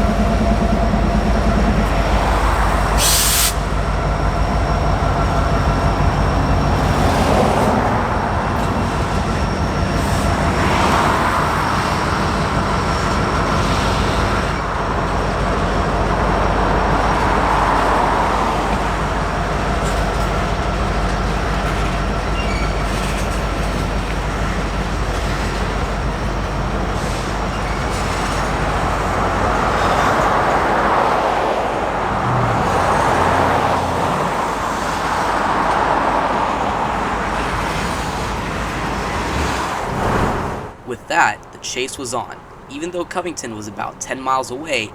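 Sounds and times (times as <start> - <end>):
tank train wheels rumbling on rail: 0.0 - 44.9.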